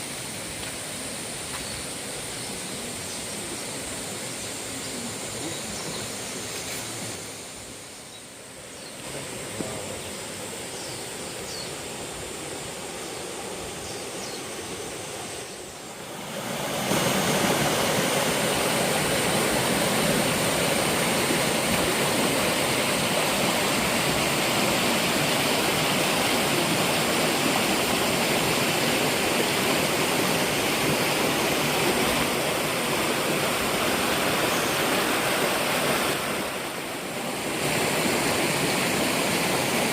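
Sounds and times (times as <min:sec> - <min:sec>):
rushing stream and waterfall: 0:00.0 - 0:39.9.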